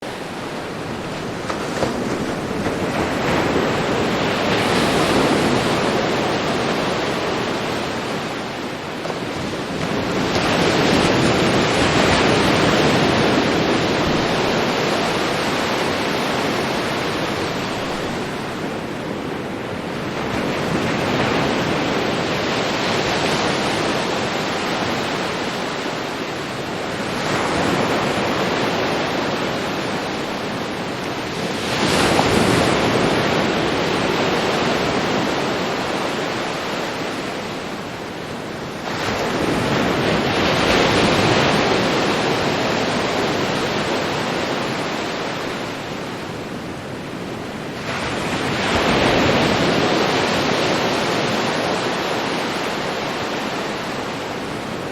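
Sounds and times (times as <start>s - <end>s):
waves breaking on a beach: 0.0s - 54.9s.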